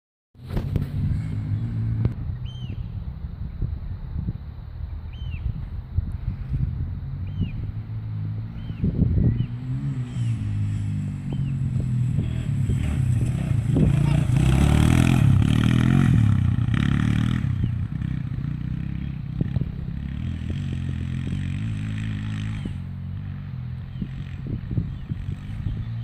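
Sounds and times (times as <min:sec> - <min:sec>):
quad bike engine revving: 0:00.5 - 0:02.6, 0:07.1 - 0:26.0.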